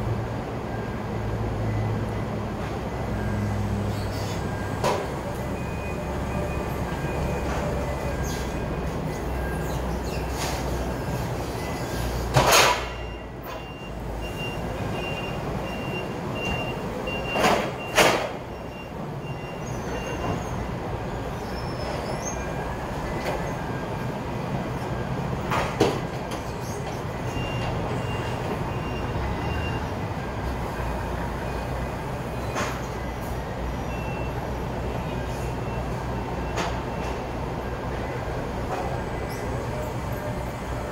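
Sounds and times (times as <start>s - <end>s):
reversing alarm beeping: 0.6s - 26.1s, 27.0s - 40.9s.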